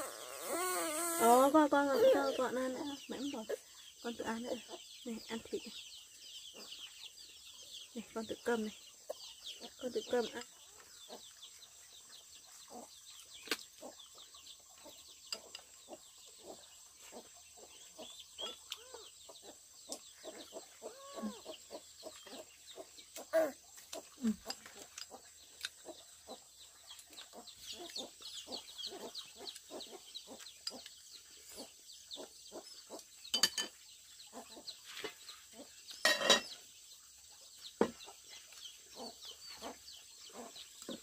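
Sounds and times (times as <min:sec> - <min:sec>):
chickens clucking: 0:08.0 - 0:41.0.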